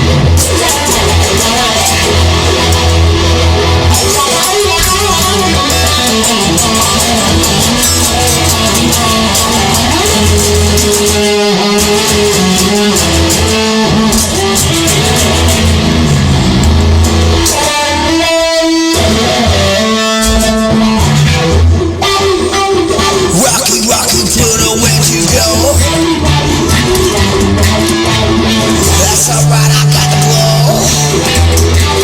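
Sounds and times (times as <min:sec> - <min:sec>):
instrumental rock music: 0:00.0 - 0:32.0.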